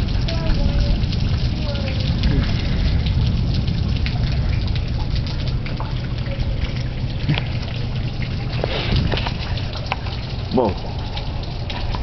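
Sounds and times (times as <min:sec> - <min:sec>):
low continuous rumble: 0:00.0 - 0:12.0
thunderstorm rain drops ticking: 0:00.0 - 0:12.0.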